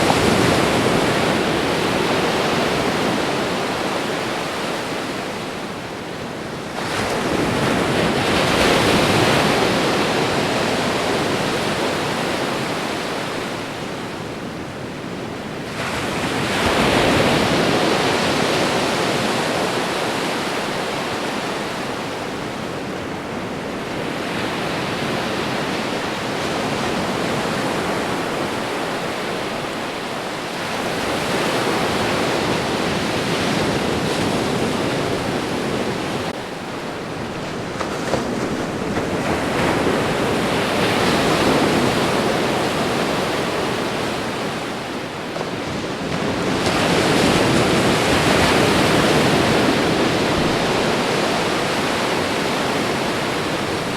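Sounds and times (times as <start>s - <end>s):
ocean waves washing onto shore: 0.0s - 53.9s.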